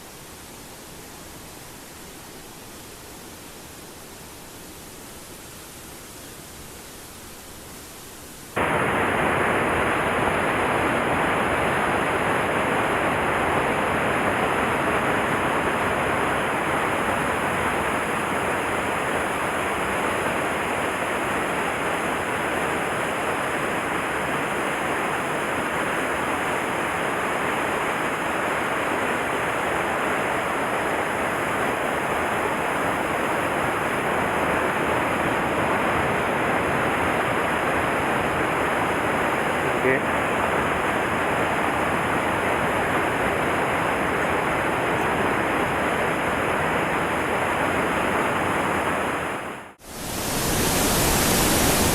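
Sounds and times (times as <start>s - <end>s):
rushing stream water: 0.0s - 51.9s.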